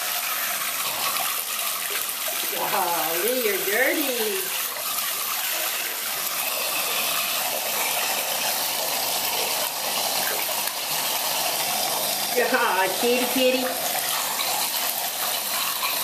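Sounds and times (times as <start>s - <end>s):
faucet water splashing into tub: 0.0s - 16.0s.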